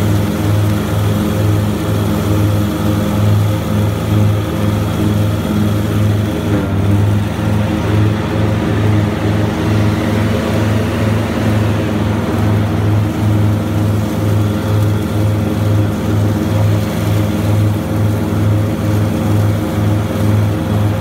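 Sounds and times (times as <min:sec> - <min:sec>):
mower engine droning: 0:00.0 - 0:21.0.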